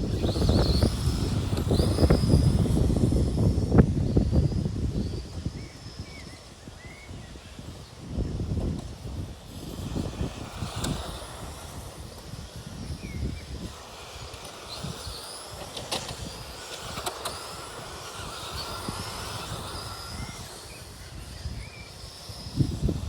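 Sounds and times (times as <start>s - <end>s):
electric motors whining: 0.0s - 23.0s
wind on microphone: 0.0s - 23.0s.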